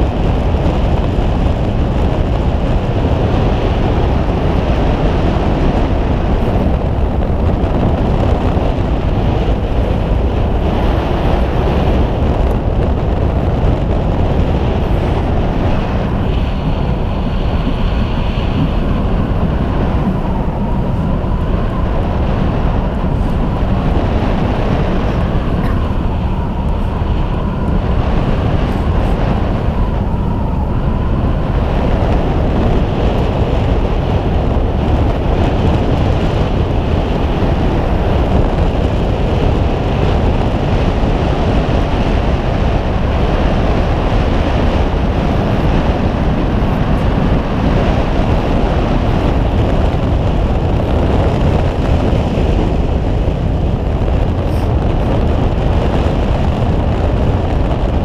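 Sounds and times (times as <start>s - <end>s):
boat engine and water rush: 0.0s - 58.0s
wind noise on microphone: 0.0s - 58.0s.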